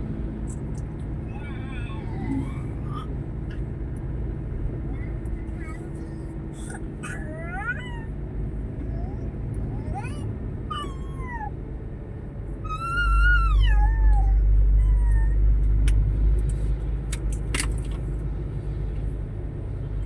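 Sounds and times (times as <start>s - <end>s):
low vehicle engine rumble: 0.0s - 20.0s.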